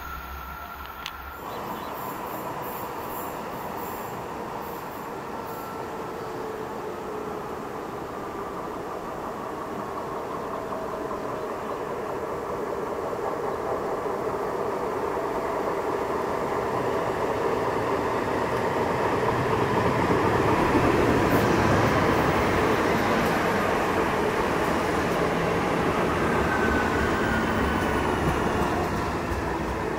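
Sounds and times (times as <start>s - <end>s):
electric train approaching: 0.0s - 29.9s.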